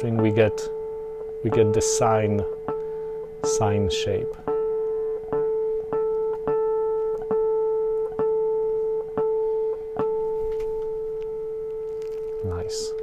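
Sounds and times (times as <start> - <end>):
electric guitar harmonic plucks: 0.0 - 13.0.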